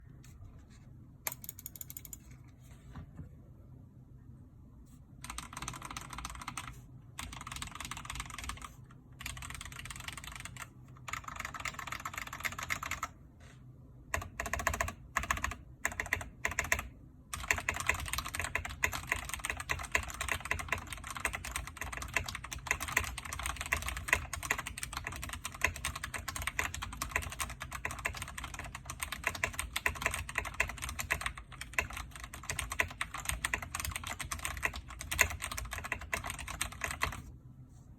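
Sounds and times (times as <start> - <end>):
mechanical keyboard typing: 1.3 - 2.3, 5.2 - 13.2, 14.1 - 37.2.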